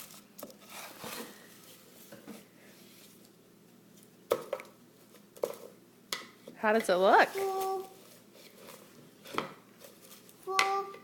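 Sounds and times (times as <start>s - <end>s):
rustling and handling noises: 0.0s - 11.0s.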